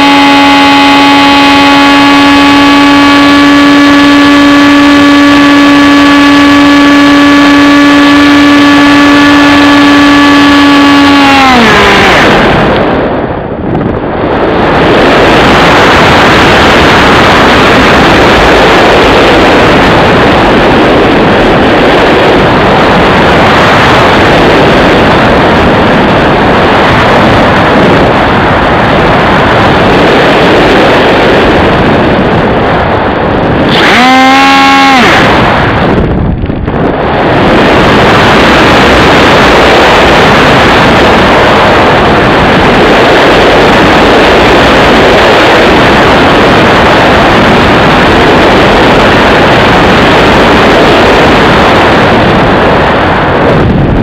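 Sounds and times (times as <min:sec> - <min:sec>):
electric motor and propeller whine: 0:00.0 - 0:54.0
wind rushing over microphone: 0:00.0 - 0:54.0.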